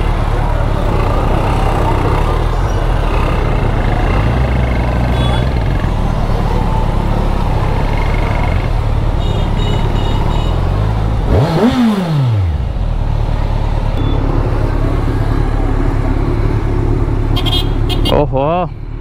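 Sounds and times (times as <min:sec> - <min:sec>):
motorcycle engine running: 0:00.0 - 0:18.1
road noise: 0:00.0 - 0:19.0.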